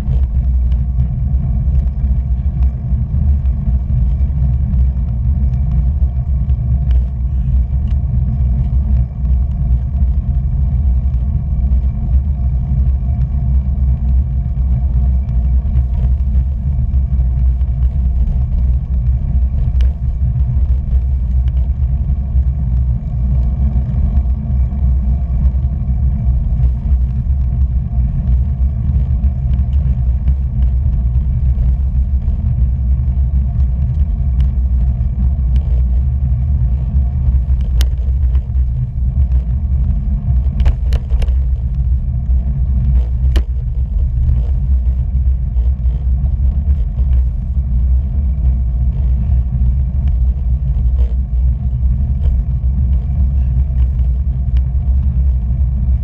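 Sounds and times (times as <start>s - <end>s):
road noise: 0.0s - 56.0s
wind: 0.0s - 56.0s.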